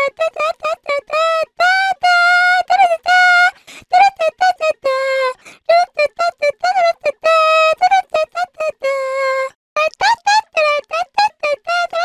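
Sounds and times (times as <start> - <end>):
high-pitched girlish voice singing: 0.0 - 12.0.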